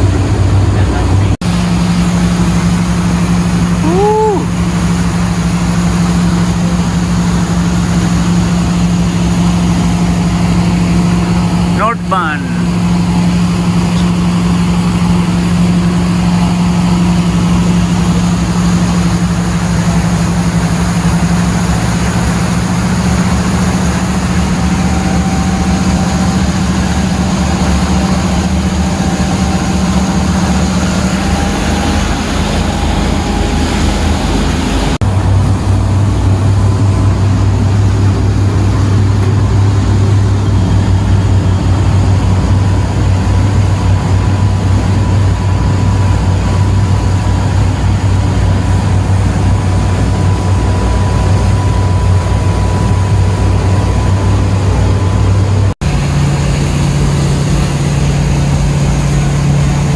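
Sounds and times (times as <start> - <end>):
boat engine drone: 0.0 - 59.9
rush of boat wake: 0.0 - 59.9
wind: 0.0 - 59.9.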